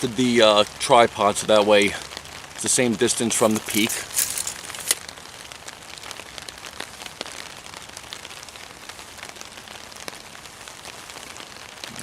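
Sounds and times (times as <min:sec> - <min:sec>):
rain on a tarp: 0:00.0 - 0:12.0.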